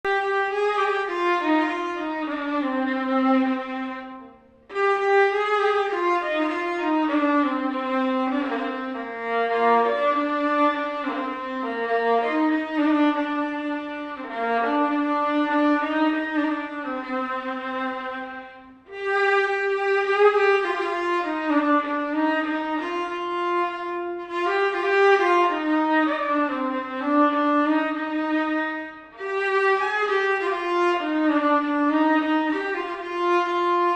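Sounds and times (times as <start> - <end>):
bowed fiddle melody: 0.0 - 33.9.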